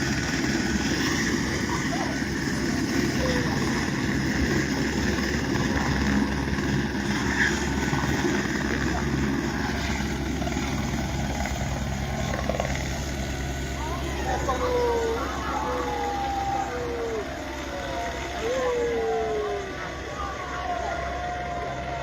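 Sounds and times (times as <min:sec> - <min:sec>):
helicopter engine whine: 0:00.0 - 0:22.0
helicopter rotor throb: 0:00.0 - 0:22.0.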